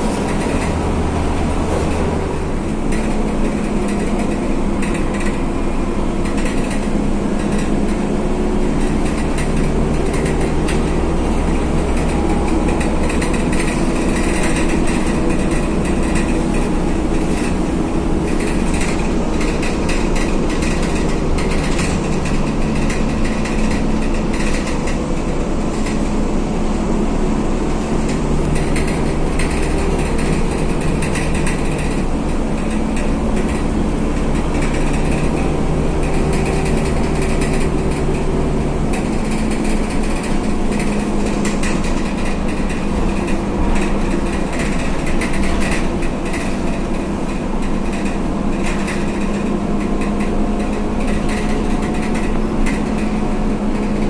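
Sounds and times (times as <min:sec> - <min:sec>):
bus diesel engine droning: 0:00.0 - 0:54.0
cabin fittings rattling: 0:06.2 - 0:26.8, 0:27.6 - 0:54.0.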